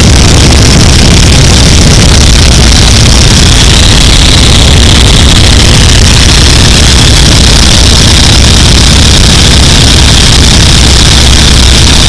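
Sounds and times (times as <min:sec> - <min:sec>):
wind rushing past microphone: 0:00.0 - 0:09.7
biplane engine running: 0:00.0 - 0:12.0.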